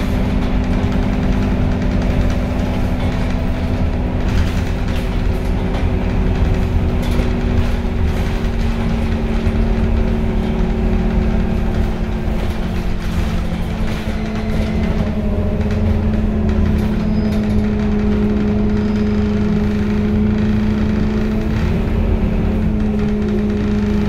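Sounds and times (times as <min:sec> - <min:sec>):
bus engine and driveline drone: 0:00.0 - 0:24.0.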